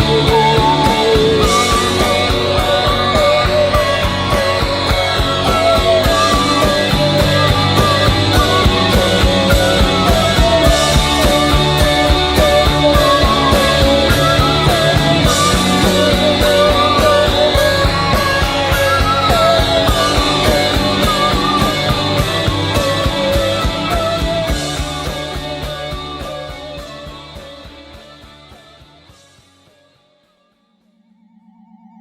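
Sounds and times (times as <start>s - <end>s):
steady drum beats: 0.0s - 29.4s
wavering lead guitar notes: 0.0s - 29.7s
glam rock band playing: 0.0s - 30.0s.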